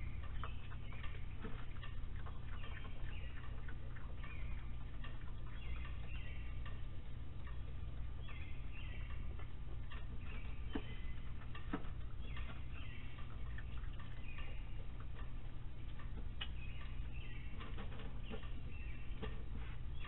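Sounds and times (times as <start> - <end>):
small clicks and ticks: 0.0 - 19.5
high chirping animal calls: 0.0 - 20.0
steady low hum: 0.0 - 20.0.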